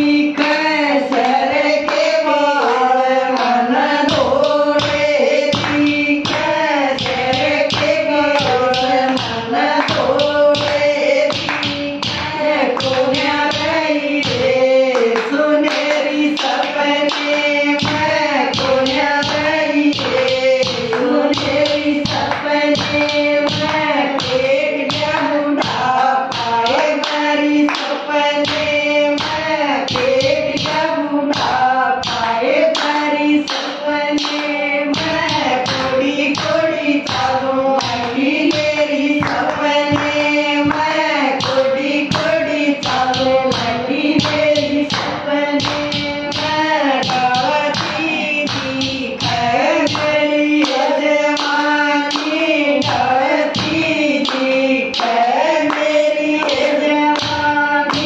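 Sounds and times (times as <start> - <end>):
rhythmic hand clapping: 0.0 - 58.0
women singing together: 0.0 - 58.0.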